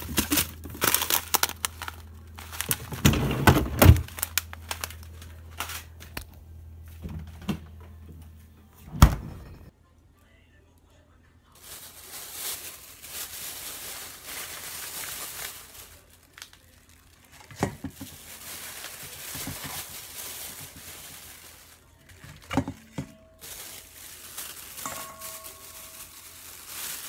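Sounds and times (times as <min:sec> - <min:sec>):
plastic bag crinkling: 0:00.0 - 0:06.2, 0:11.6 - 0:27.0.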